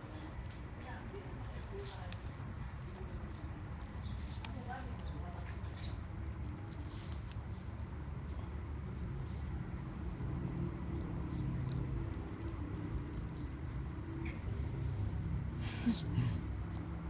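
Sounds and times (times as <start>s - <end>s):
chewing apple crunching: 0.1s - 15.4s.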